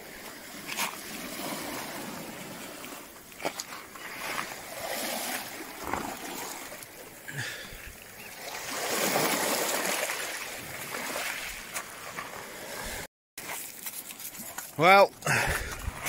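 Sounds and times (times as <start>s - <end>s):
waves washing over pebbles: 0.0s - 13.6s.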